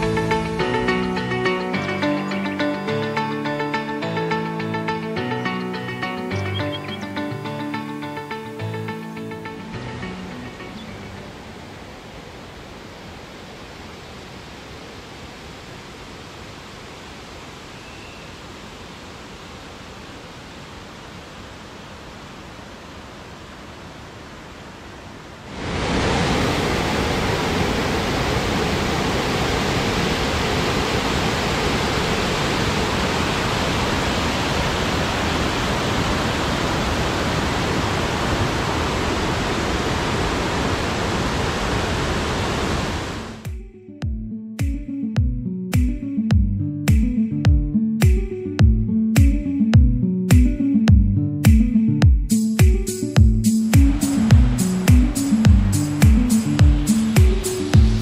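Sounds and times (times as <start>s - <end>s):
waterfall rushing: 0.0s - 43.5s, 53.7s - 58.0s.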